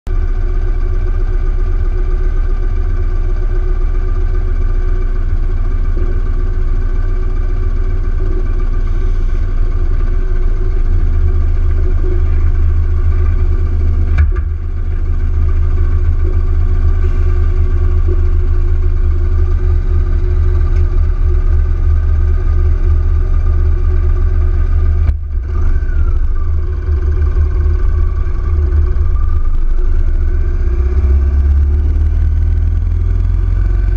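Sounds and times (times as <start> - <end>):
motorcycle engine cruising: 4.4 - 33.9.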